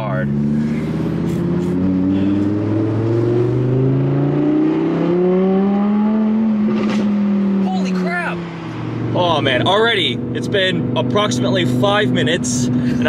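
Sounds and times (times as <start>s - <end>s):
sports car engine accelerating: 0.0s - 13.0s.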